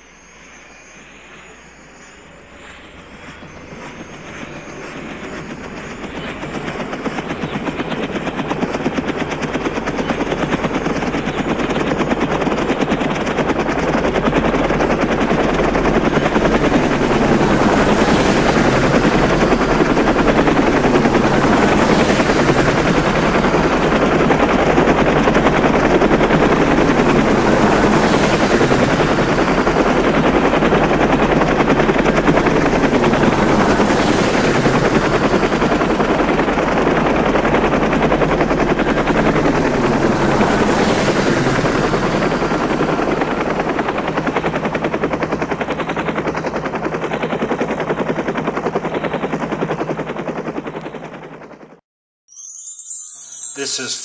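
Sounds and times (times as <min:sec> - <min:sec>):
helicopter rotor chopping: 0:02.9 - 0:51.6.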